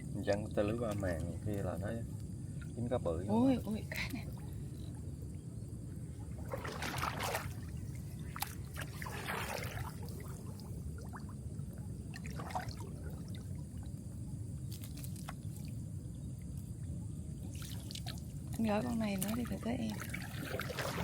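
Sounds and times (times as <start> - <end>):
water splashing and trickling: 0.0 - 4.9, 6.0 - 21.0.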